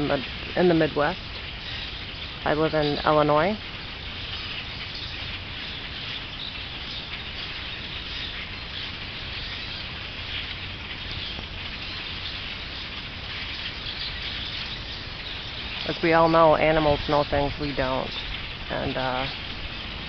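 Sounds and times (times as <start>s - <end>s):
flock of birds chirping: 0.0s - 20.0s.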